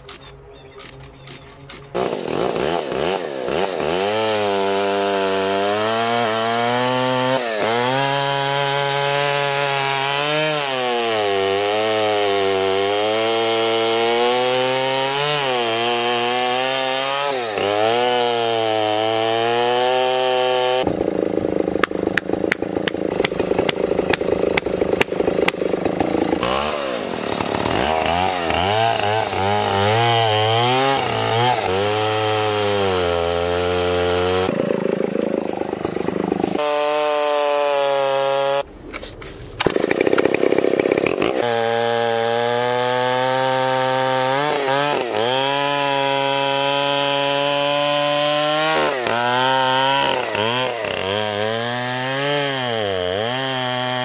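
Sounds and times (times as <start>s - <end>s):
chainsaw cutting log: 1.6s - 54.0s.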